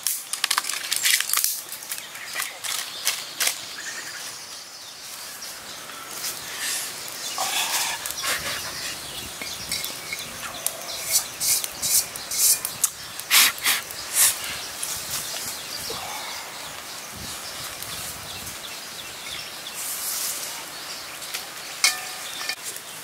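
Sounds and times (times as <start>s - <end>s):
sharp snaps of burning twigs: 0.0s - 4.3s, 5.0s - 18.6s, 19.8s - 23.0s
twig fire crackling: 0.0s - 23.0s.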